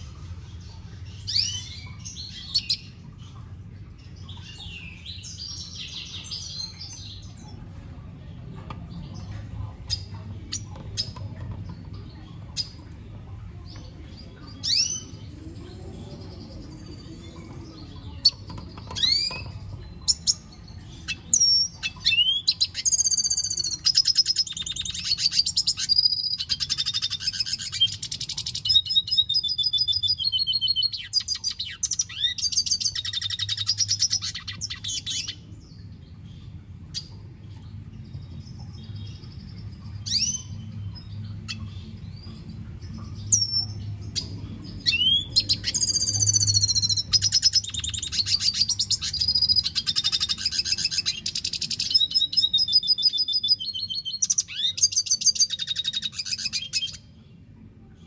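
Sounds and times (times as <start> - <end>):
bird twittering song: 0.0 - 57.6.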